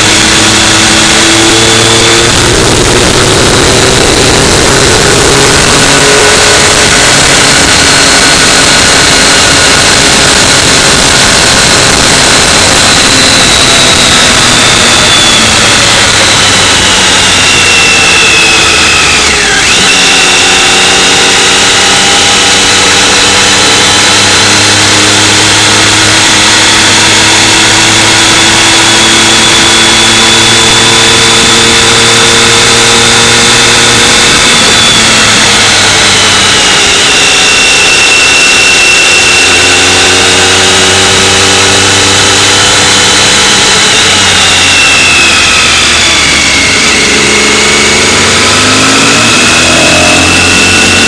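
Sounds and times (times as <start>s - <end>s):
motorcycle engine: 0.0s - 51.0s
rush of noise: 0.0s - 51.0s.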